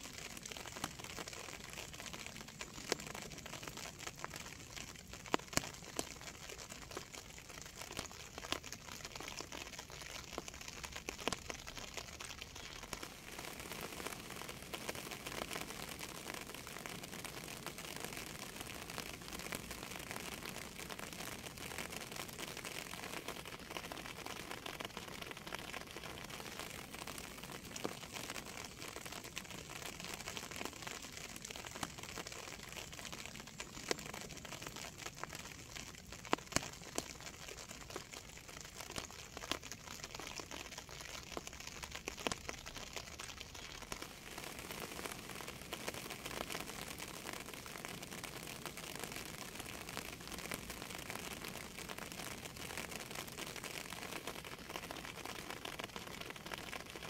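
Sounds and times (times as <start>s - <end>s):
sharp raindrop ticks: 0.0s - 57.0s
steady rain falling: 0.0s - 57.0s.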